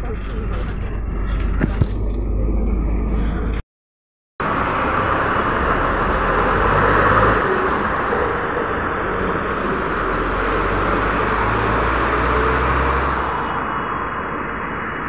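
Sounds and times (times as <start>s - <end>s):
bus diesel engine drone: 0.0s - 3.6s, 4.4s - 15.0s
street traffic noise: 0.0s - 3.6s, 4.4s - 15.0s.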